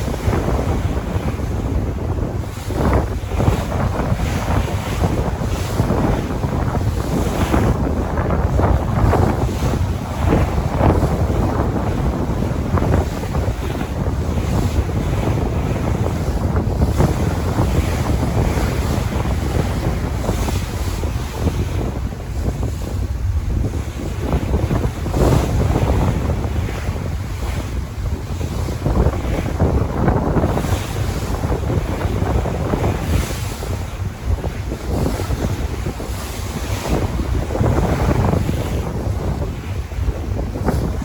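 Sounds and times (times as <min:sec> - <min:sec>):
sea waves splashing: 0:00.0 - 0:41.0
wind buffeting microphone: 0:00.0 - 0:41.0.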